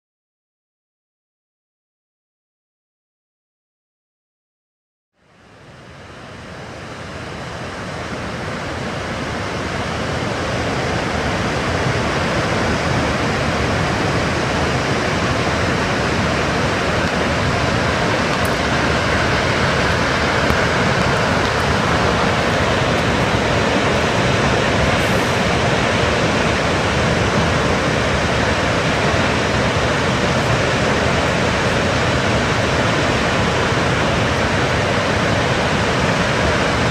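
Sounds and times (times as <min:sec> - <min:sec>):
waterfall rushing: 0:05.4 - 0:36.9.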